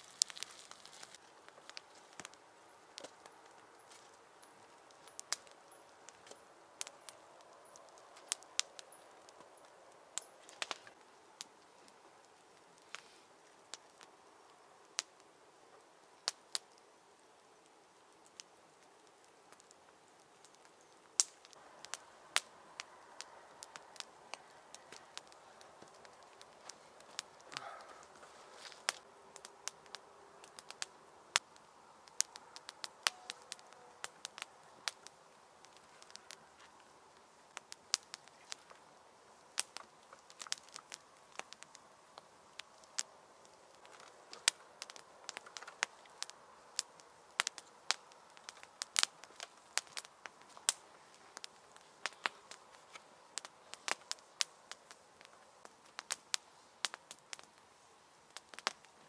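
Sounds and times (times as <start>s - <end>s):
campfire crackling and popping: 0.0s - 59.0s
faint steady hiss: 0.0s - 59.0s.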